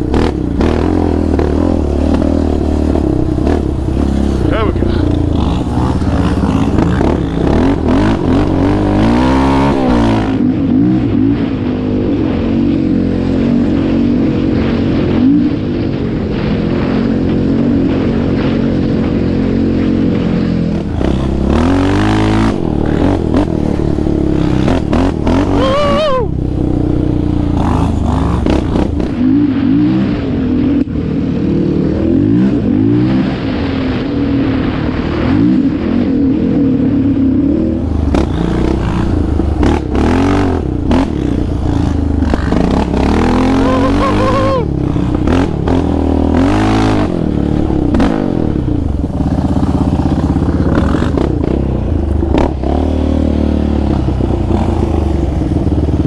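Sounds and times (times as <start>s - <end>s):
atv engines revving: 0.0s - 34.0s, 34.7s - 56.0s.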